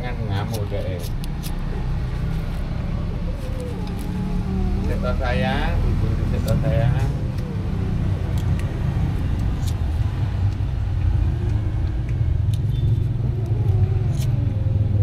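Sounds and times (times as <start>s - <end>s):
low engine-like rumble: 0.0s - 15.0s.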